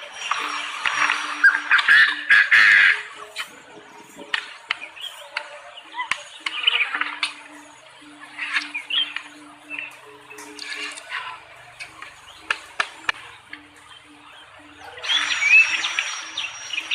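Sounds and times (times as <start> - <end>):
birds chirping and squawking: 0.0 - 16.9.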